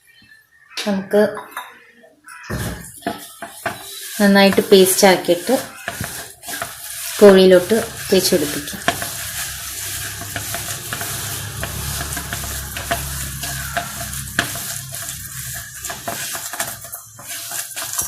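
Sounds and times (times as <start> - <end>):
spoon stirring thick wet paste: 2.8 - 18.0.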